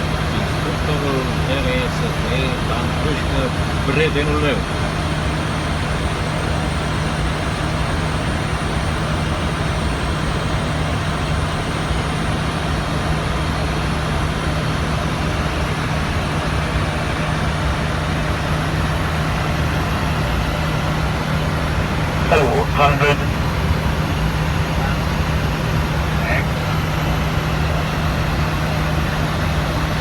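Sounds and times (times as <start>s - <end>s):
airflow and engine rush: 0.0s - 30.0s
constant low hum: 0.0s - 30.0s.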